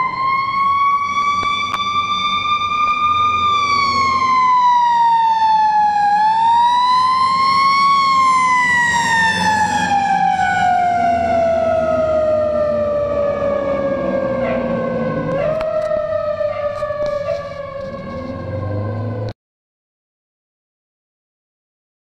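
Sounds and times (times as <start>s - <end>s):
fire engine siren wailing: 0.0s - 19.4s.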